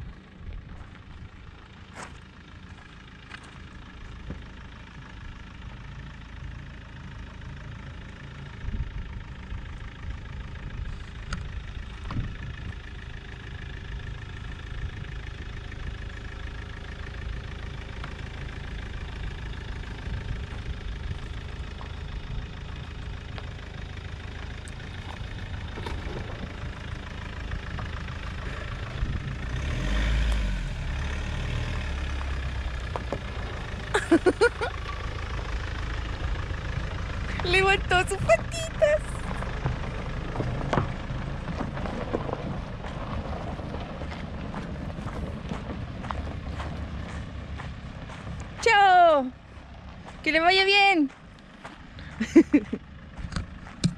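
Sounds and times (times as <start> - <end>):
pickup engine running slowly: 0.0 - 53.9.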